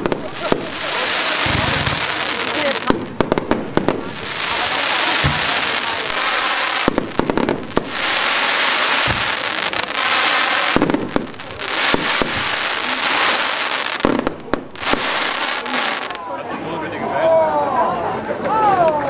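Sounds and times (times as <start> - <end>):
fireworks cracks: 0.0 - 16.2
fireworks hissing: 0.0 - 16.2.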